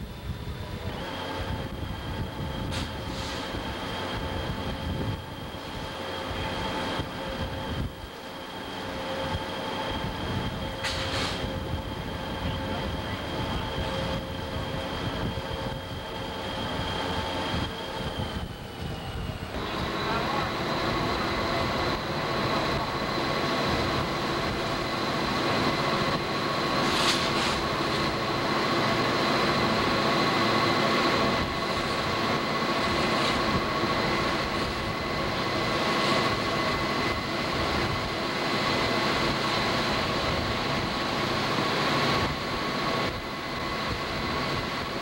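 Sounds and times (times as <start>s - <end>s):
diesel locomotive engine drone: 0.0s - 45.0s
high-pitched whine: 0.0s - 45.0s
wheel and rail noise: 0.0s - 45.0s.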